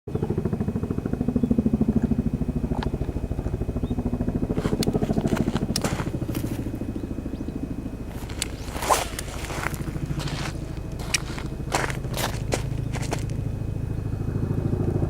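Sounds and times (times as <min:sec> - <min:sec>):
small engine running: 0:00.1 - 0:15.0.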